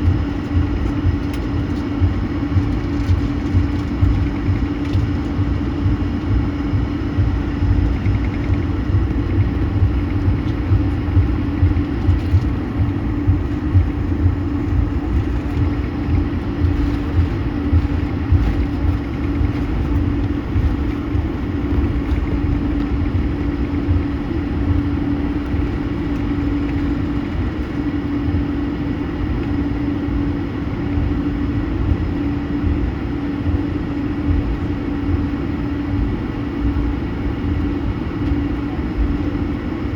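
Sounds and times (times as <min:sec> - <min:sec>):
jet engine cabin hum: 0:00.0 - 0:39.9.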